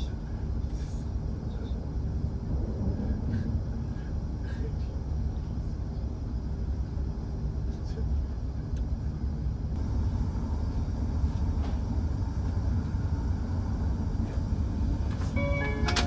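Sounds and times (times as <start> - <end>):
train running cabin rumble: 0.0 - 16.0.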